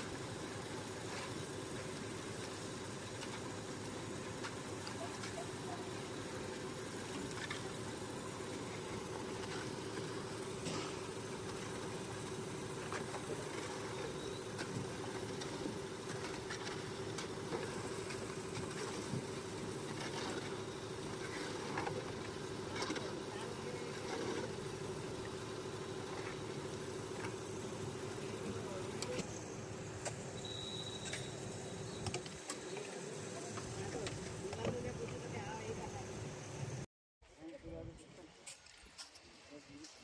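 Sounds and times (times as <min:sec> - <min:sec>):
concrete mixer engine humming: 0:00.0 - 0:38.3.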